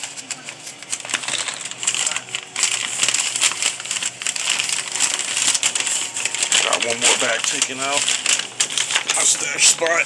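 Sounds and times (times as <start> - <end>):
paper and plastic bags crinkling: 0.0 - 10.0.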